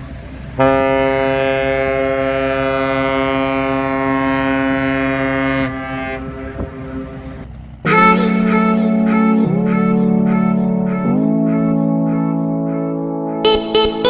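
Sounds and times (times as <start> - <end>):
long low horn blast: 0.5 - 14.0.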